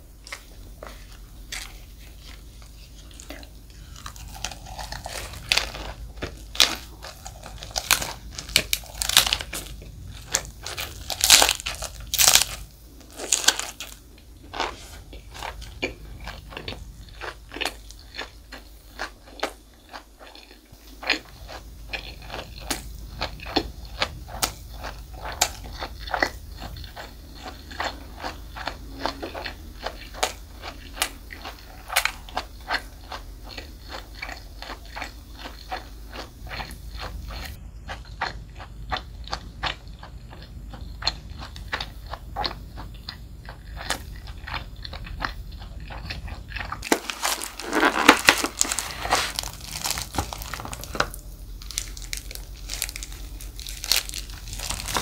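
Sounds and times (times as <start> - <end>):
crunching food: 0.1 - 55.0
wet chewing: 0.2 - 55.0.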